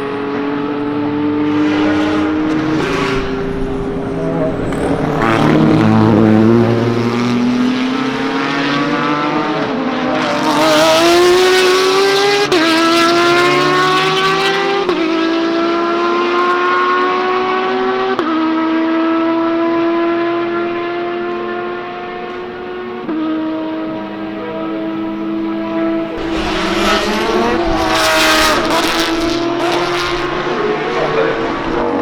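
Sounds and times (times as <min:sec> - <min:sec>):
race car engine accelerating: 0:00.0 - 0:32.0.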